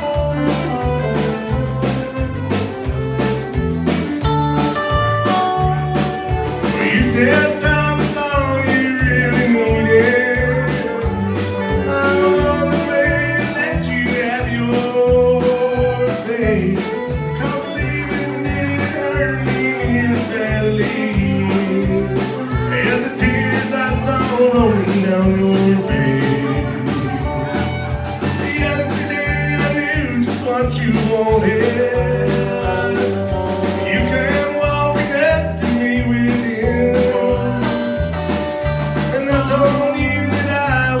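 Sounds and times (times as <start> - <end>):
country band playing: 0.0 - 41.0
drums keeping a steady beat: 0.0 - 41.0
fiddle melody: 0.0 - 41.0.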